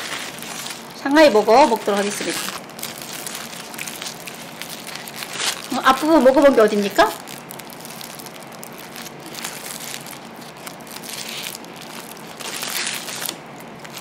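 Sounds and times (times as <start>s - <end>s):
paper wrapper crinkling: 0.0s - 14.0s.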